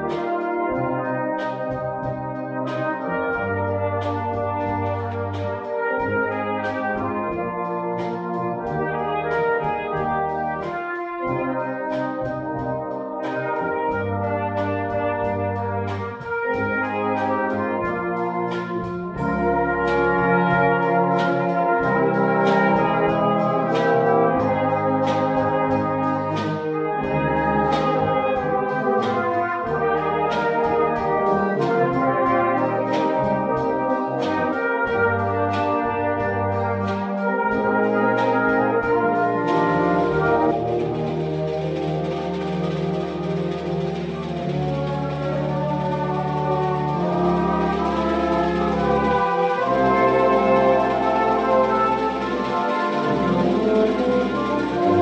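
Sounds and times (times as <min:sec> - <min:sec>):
brass band playing: 0:00.0 - 0:55.0
drum kit steady beat: 0:00.0 - 0:55.0.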